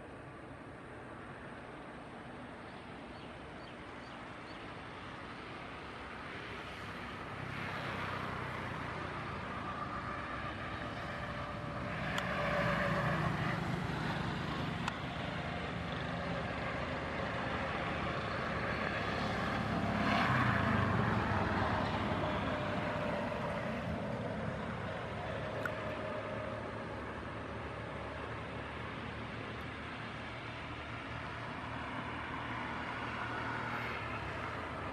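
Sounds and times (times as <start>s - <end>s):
jet engines humming and whining: 0.0s - 34.9s.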